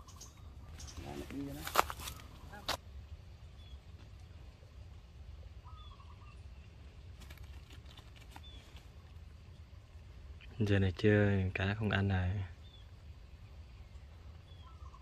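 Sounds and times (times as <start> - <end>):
faint bird chirps: 0.0 - 2.7, 3.4 - 15.0
low steady rumble: 0.0 - 7.2, 8.4 - 15.0.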